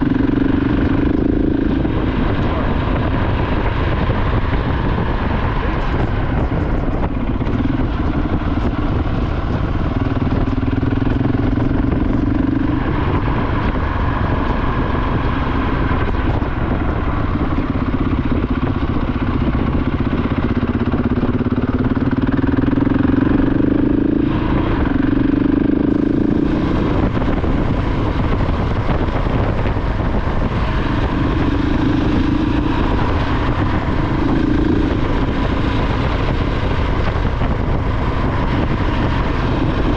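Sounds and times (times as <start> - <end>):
motorcycle engine revving: 0.0 - 39.9
road rumble: 0.0 - 39.9
wind: 0.0 - 39.9.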